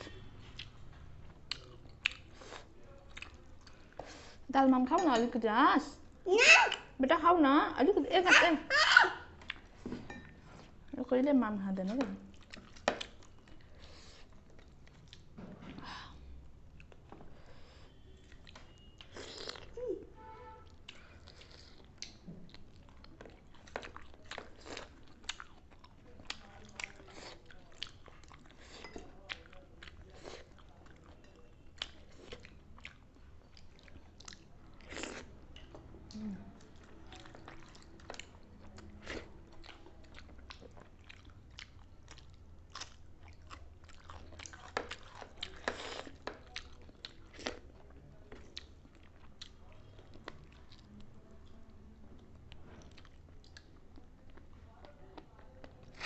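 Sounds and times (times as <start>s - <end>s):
chewing and crunching fried chicken: 0.0s - 4.4s, 11.8s - 15.4s, 16.6s - 19.8s, 20.6s - 56.0s.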